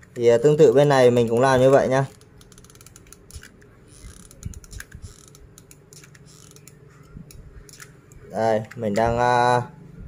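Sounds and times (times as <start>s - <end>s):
plastic straws clicking and creaking: 0.0s - 9.1s.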